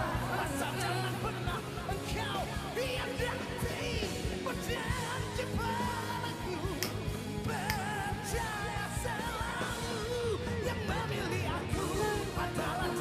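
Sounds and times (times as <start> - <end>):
pop-rock band playing: 0.0 - 13.0.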